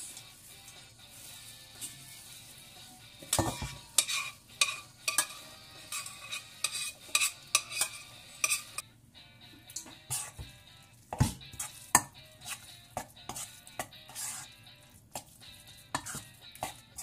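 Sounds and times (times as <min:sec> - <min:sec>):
metal utensil scraping bowls: 0:00.0 - 0:08.8, 0:09.7 - 0:10.5, 0:11.2 - 0:14.6, 0:15.9 - 0:17.0.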